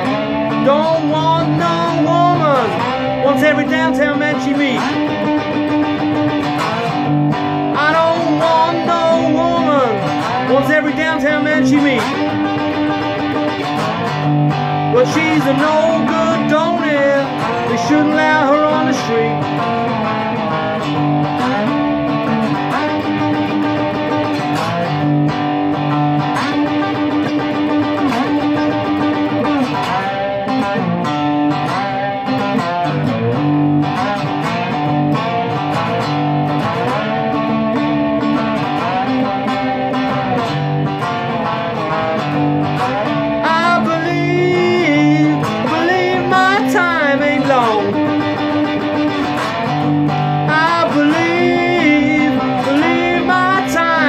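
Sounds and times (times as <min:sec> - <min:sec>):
cigar box guitar blues riff: 0:00.0 - 0:54.0.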